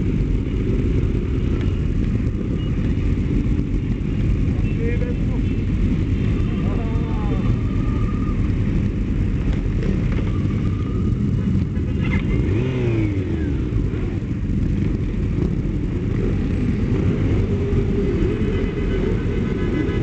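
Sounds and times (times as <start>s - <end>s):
motorcycle engine revving: 0.0s - 20.0s
motorcycle engines rumbling: 0.0s - 20.0s.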